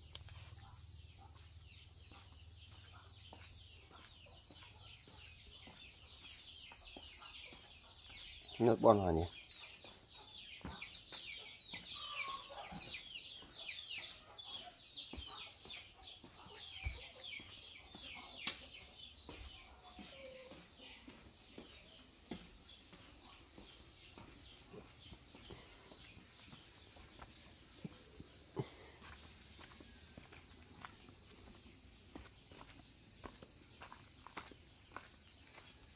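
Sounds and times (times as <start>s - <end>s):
birds chirping: 0.0s - 35.9s.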